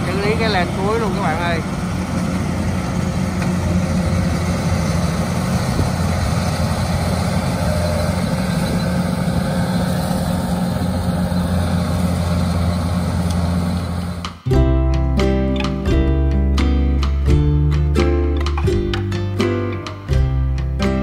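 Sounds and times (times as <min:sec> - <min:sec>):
diesel engine hum: 0:00.0 - 0:21.0.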